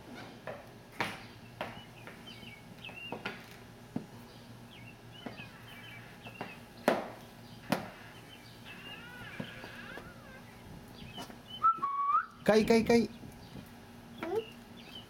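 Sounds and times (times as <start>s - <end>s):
small birds chirping: 1.2s - 15.0s.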